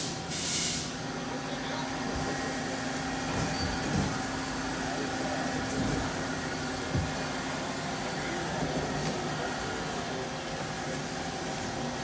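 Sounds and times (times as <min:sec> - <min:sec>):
lathe mechanical hum: 0:00.0 - 0:12.0.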